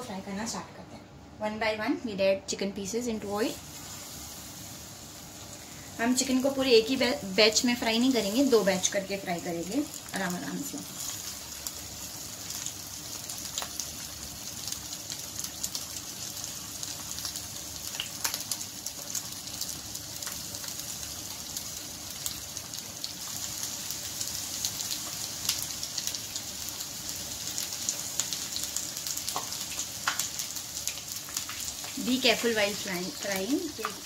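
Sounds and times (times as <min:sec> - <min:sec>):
chicken frying in hot oil: 0:03.2 - 0:34.0.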